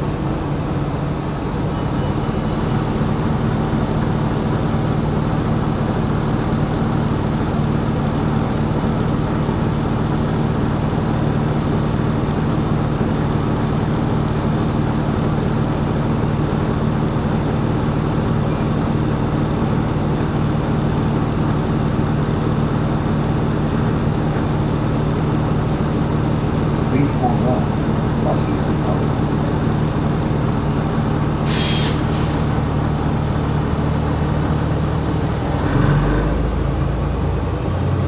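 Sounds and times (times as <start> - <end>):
bus engine droning: 0.0 - 38.0.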